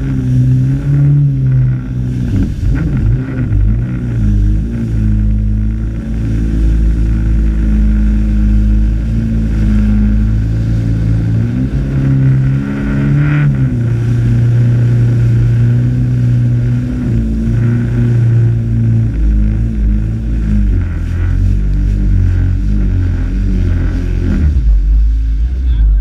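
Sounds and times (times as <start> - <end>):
heavy low rumble: 0.0 - 26.0
jet ski engine running: 0.0 - 26.0.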